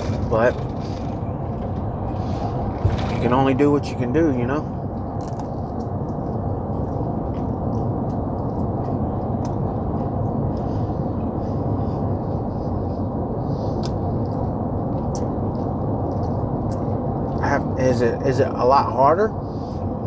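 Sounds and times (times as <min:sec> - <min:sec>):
truck rumble from inside cab: 0:00.0 - 0:20.0.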